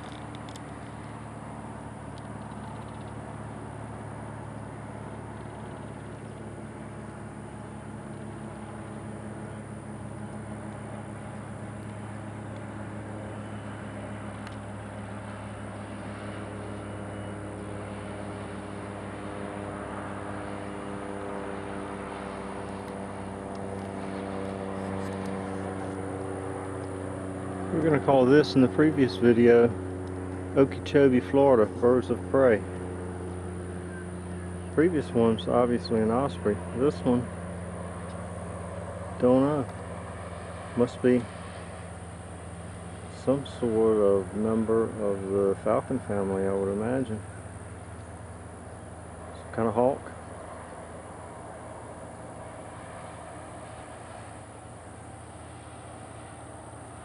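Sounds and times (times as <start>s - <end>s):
motor engine running: 0.0s - 57.0s.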